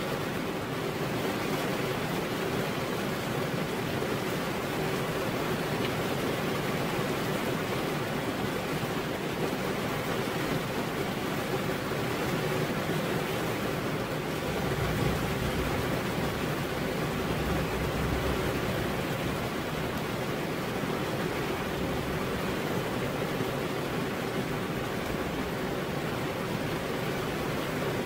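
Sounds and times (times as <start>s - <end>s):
heavy rain on roof: 0.0s - 28.0s.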